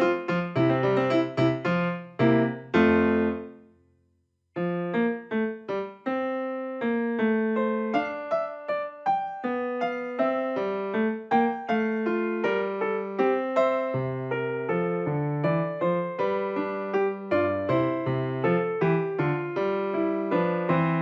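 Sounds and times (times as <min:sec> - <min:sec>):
piano music: 0:00.0 - 0:03.7, 0:04.6 - 0:21.0.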